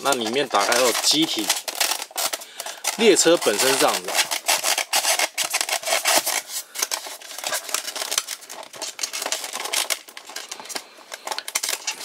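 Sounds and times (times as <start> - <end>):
foam scratching against plastic: 0.0 - 12.0.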